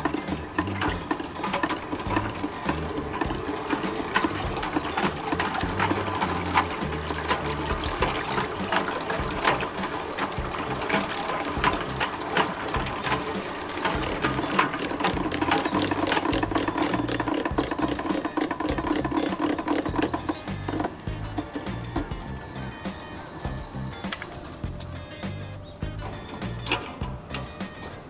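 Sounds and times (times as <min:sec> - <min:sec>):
background music: 0:00.0 - 0:28.0
paddles churning and splashing water: 0:00.0 - 0:28.0.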